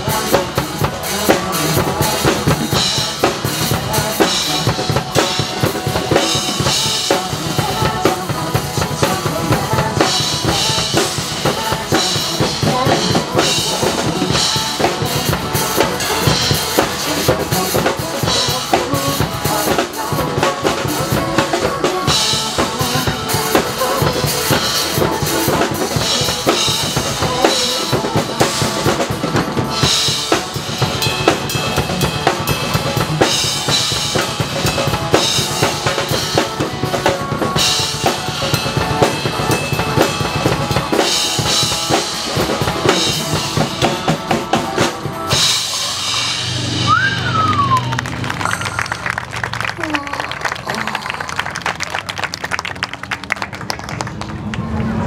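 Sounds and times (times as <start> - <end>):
recorded backing song: 0.0 - 49.2
drum kits playing: 0.0 - 54.2.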